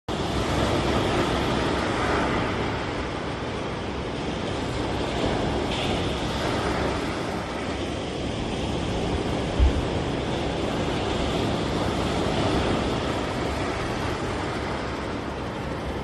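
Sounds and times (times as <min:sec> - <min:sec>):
ocean surf washing in: 0:00.1 - 0:16.0
wind buffeting microphone: 0:00.1 - 0:16.0.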